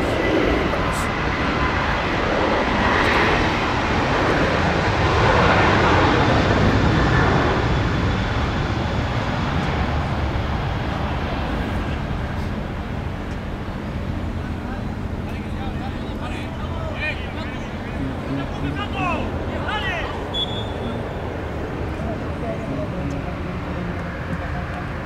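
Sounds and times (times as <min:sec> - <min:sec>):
aircraft passing overhead: 0:00.0 - 0:25.0.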